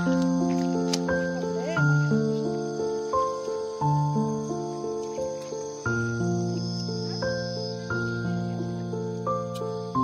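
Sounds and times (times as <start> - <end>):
slow melody of held notes: 0.0 - 10.0.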